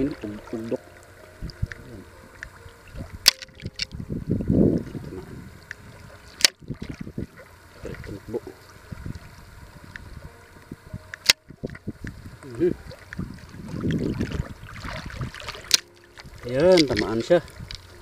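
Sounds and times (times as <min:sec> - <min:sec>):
water sloshing as someone wades: 0:00.0 - 0:18.0.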